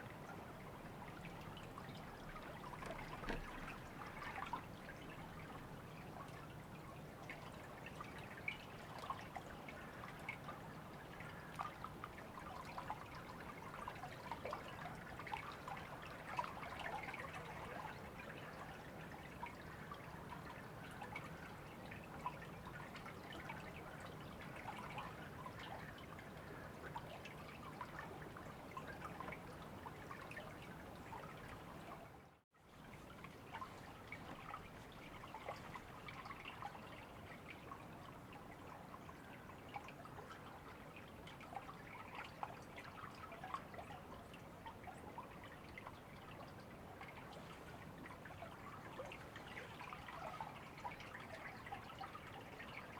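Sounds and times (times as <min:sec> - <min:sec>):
river water trickling: 0:00.0 - 0:52.9.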